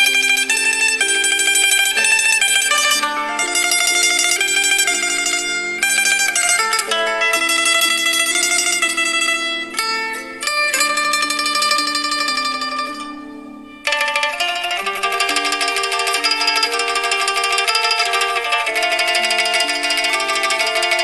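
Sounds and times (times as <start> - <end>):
plucked-string melody: 0.0 - 21.0.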